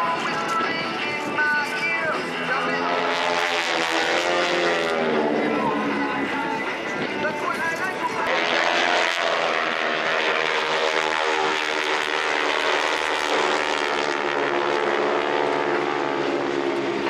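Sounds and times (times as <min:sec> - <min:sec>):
plane engines droning overhead: 0:00.0 - 0:17.0.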